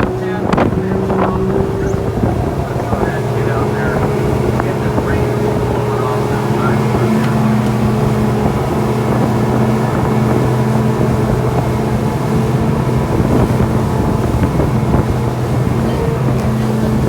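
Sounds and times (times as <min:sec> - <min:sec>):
boat engine humming: 0:00.0 - 0:17.0
wind buffeting microphone: 0:00.0 - 0:17.0.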